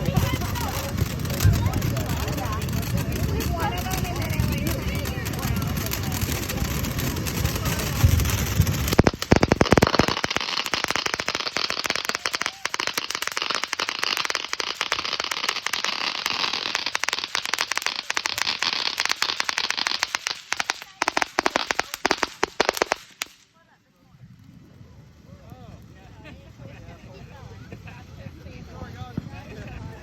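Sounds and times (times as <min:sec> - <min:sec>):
firework fountain crackling: 0:00.0 - 0:30.0.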